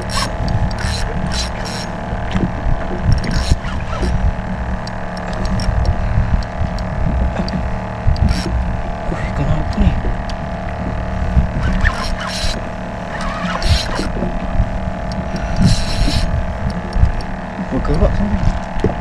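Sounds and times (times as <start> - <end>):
fishing tackle clicks and rustles: 0.0 - 8.8, 9.7 - 17.7
boat motor humming: 0.0 - 19.0.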